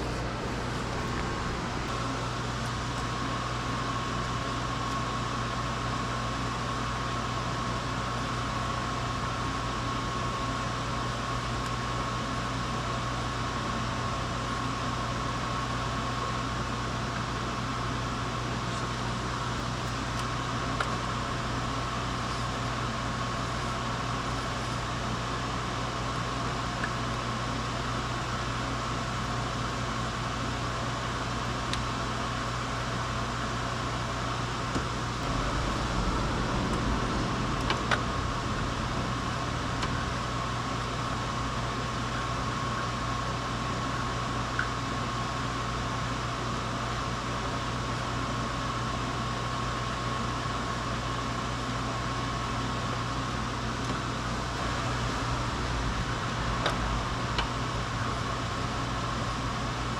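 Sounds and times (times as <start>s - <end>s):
mechanical hum with whine: 0.0s - 59.9s.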